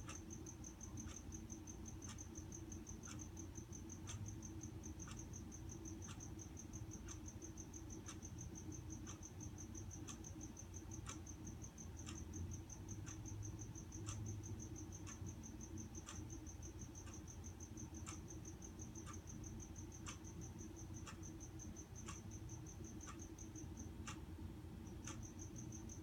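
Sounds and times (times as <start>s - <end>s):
sharp tick: 0.0s - 3.4s, 4.0s - 24.2s, 25.0s - 26.0s
cricket chirping: 0.0s - 26.0s.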